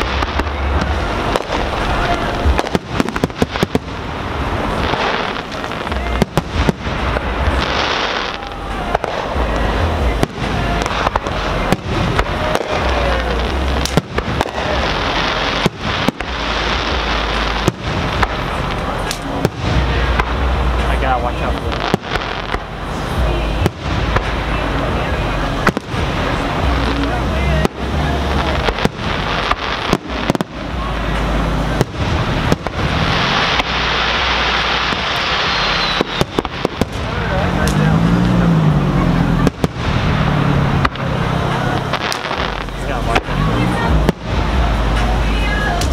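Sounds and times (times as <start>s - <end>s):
firework shells bursting: 0.0s - 24.9s, 25.6s - 38.4s.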